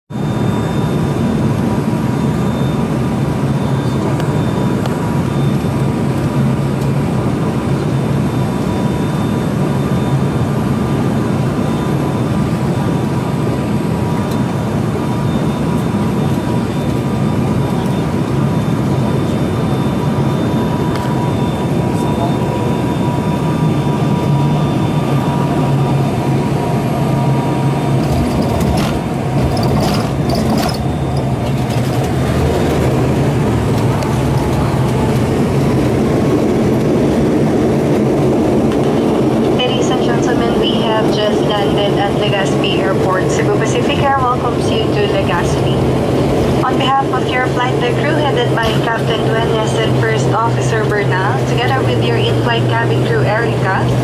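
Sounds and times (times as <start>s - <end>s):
airliner cabin engine noise: 0.1s - 54.0s.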